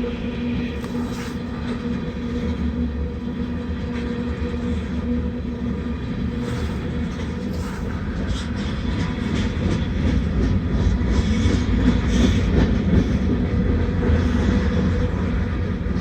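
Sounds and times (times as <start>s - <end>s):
freight train rumbling: 0.0s - 16.0s.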